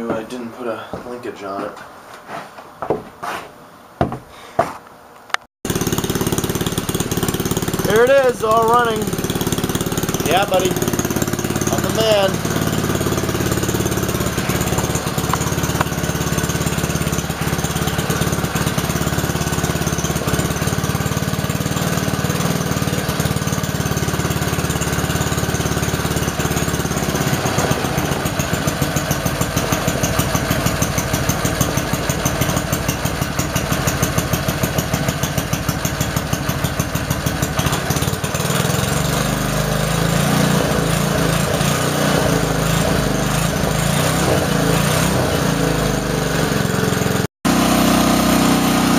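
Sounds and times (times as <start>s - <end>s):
small engine running: 5.7s - 48.9s.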